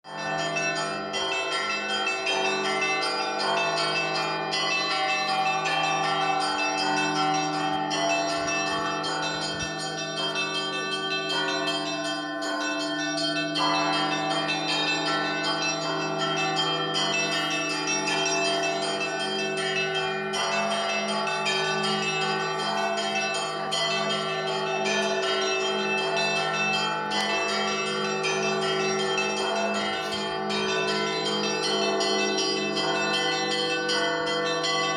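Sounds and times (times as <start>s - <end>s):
hum of large bells: 0.0s - 34.9s
small church bells ringing: 0.0s - 34.9s.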